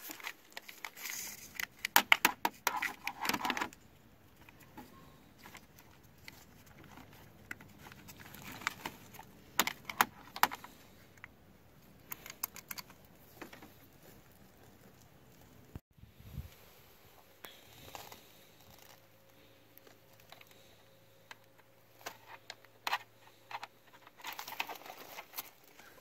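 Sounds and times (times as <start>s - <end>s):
rustling of wiring: 0.0s - 15.8s, 16.5s - 26.0s.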